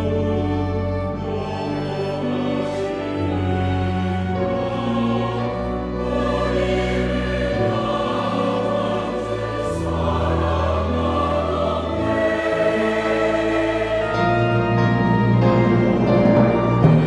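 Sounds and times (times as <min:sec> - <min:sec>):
choir singing a hymn: 0:00.0 - 0:17.0
piano: 0:00.0 - 0:17.0
strings: 0:00.0 - 0:17.0.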